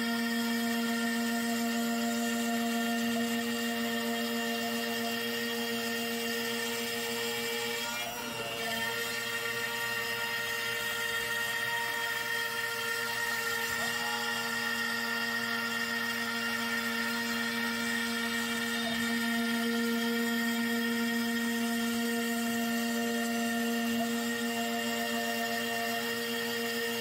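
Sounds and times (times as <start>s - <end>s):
router spindle whining: 0.0s - 27.0s.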